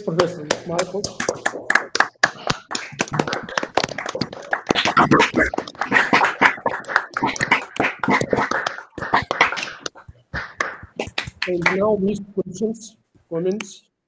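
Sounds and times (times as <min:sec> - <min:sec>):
people applauding: 0:00.2 - 0:11.8.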